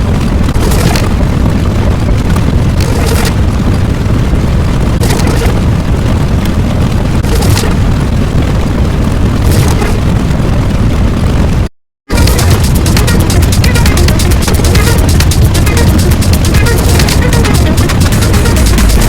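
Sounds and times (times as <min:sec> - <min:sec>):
crackling burst: 0:00.0 - 0:19.0
rumbling explosion: 0:00.0 - 0:19.0.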